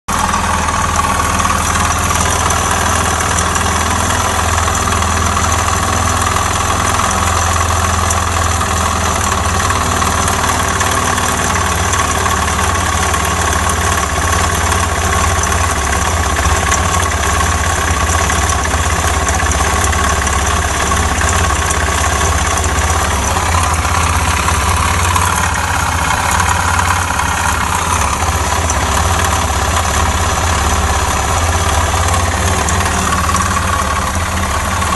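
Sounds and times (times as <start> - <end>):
motorcycle engine idling with knock: 0.1 - 34.9.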